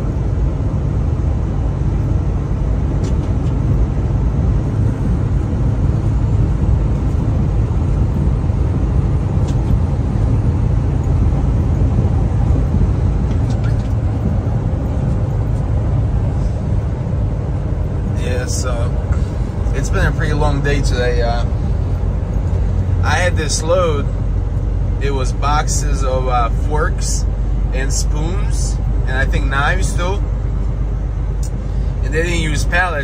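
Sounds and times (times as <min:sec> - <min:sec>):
truck engine and tyre rumble: 0:00.0 - 0:33.0.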